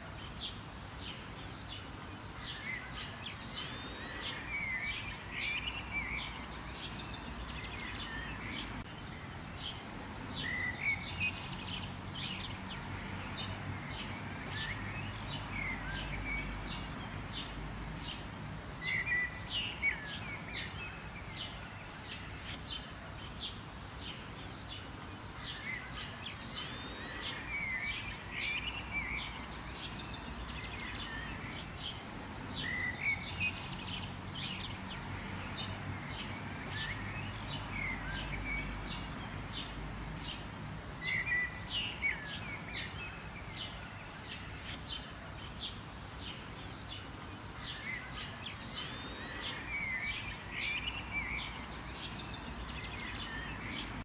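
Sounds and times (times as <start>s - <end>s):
birds chirping and singing: 0.2s - 54.0s.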